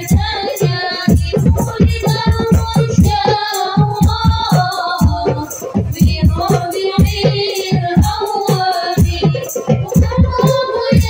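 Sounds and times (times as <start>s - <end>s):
frame drums beating: 0.0s - 11.0s
women singing: 0.0s - 11.0s.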